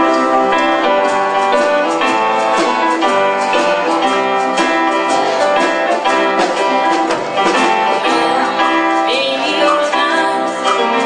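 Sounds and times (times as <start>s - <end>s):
instrumental gospel music with guitar: 0.0s - 11.0s.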